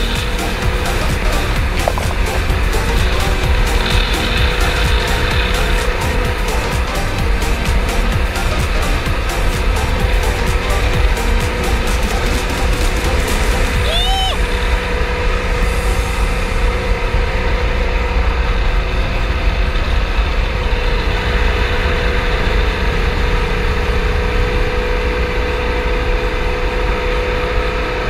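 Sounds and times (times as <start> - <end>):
watercraft engine droning: 0.0 - 28.0.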